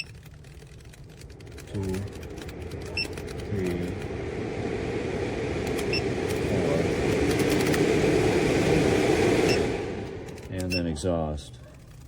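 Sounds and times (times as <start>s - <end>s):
roof vent fan running: 0.0s - 12.0s.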